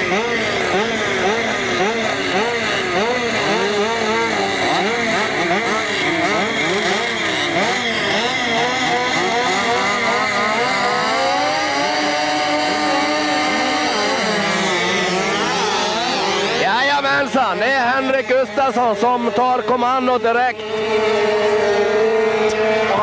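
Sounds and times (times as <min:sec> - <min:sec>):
motorcycles revving: 0:00.0 - 0:23.0.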